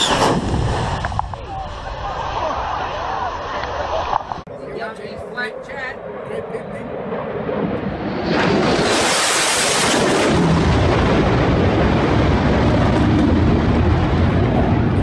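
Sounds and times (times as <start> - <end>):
jet aircraft rushing past: 0.0 - 15.0.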